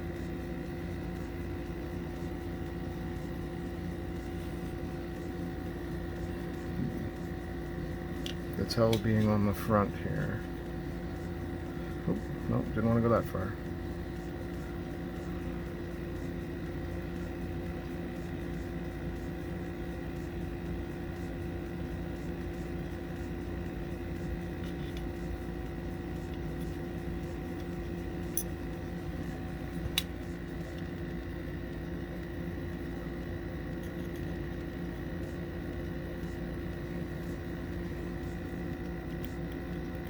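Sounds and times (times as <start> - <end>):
steady machine hum: 0.0 - 40.0.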